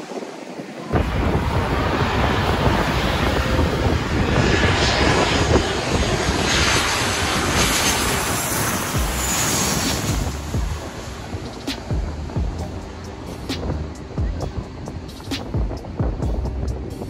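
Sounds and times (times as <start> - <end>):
airplane engine: 0.0 - 17.0.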